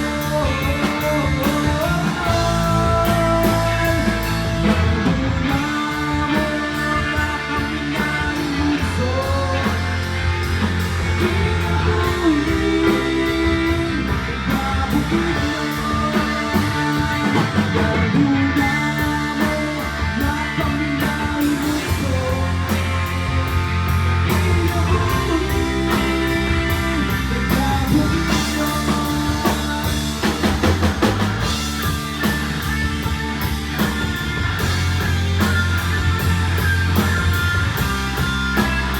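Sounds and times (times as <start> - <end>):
electric guitar lead: 0.0 - 38.9
rock band playing live: 0.0 - 38.9.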